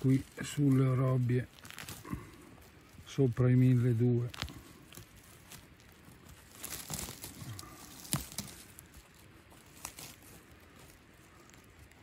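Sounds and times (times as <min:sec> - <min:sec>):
hand rustling through needles: 0:00.0 - 0:12.0
twig cracking: 0:00.0 - 0:12.0.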